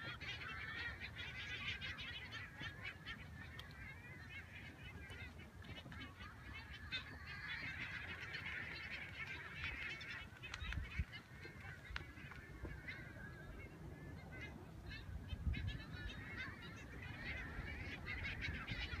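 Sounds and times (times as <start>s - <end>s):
seabirds calling: 0.0s - 19.0s.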